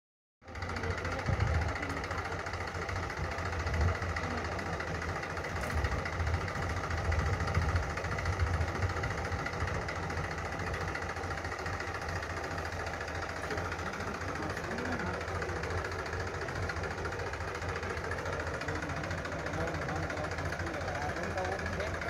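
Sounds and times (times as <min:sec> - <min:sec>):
diesel engine idling: 0:00.4 - 0:22.0.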